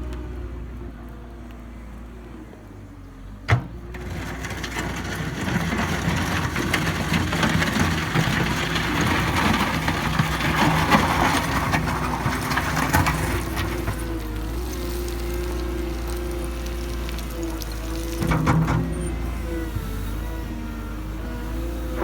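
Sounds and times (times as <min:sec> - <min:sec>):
loader diesel engine running: 0:00.0 - 0:22.0
bucket crunching through gravel: 0:04.0 - 0:22.0.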